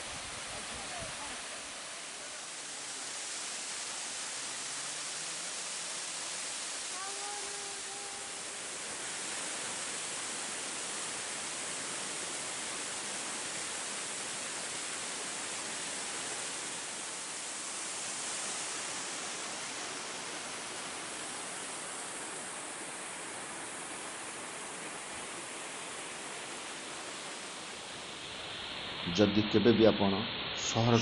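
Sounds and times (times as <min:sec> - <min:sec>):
waterfall rushing: 0:00.0 - 0:29.3.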